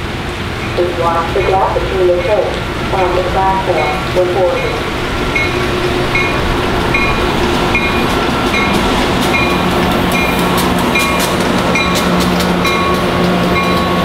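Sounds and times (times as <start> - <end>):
train low hum: 0.0 - 14.0.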